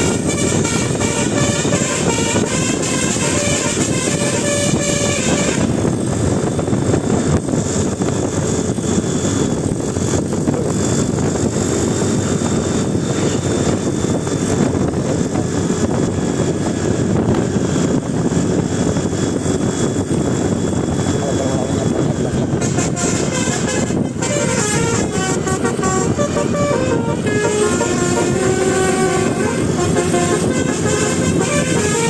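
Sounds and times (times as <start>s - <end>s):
large vehicle engine rumbling: 0.0s - 32.0s.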